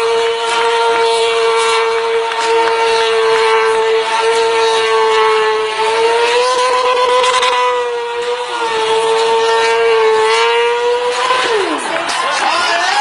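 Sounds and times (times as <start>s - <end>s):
motorcycle engine high revs: 0.0s - 13.0s.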